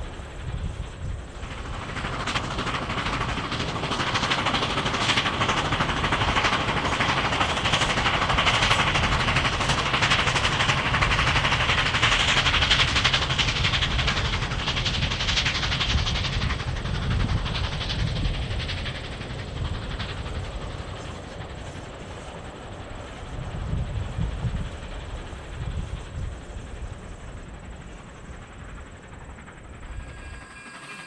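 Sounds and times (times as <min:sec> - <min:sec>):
steel wheels clattering on rails: 0:00.0 - 0:31.0
train rolling rumble: 0:00.0 - 0:31.0.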